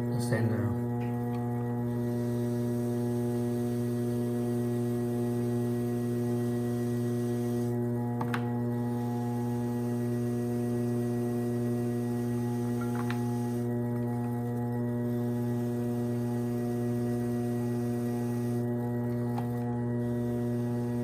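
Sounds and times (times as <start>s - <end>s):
pottery wheel motor hum: 0.0s - 21.0s.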